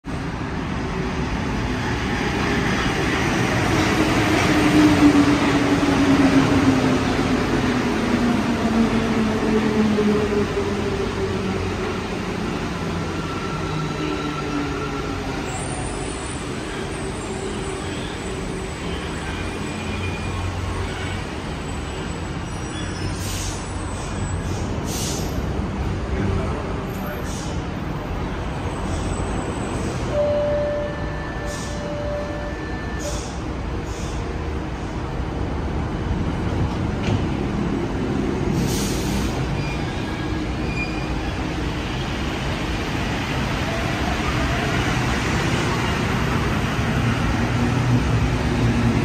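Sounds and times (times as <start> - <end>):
metro train braking to a stop: 0.7 - 25.6, 26.8 - 35.1, 36.2 - 49.0.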